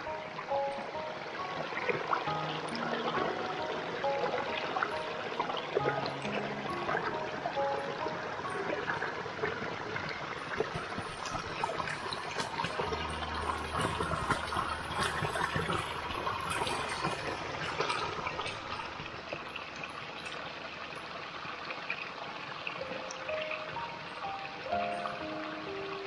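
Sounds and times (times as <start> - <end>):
stream trickling over rocks: 0.0 - 26.0.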